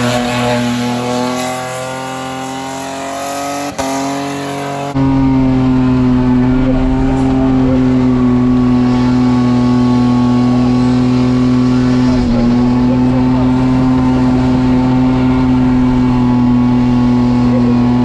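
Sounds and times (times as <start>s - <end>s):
car engine revving: 0.0s - 18.0s
tyres skidding: 0.0s - 18.0s.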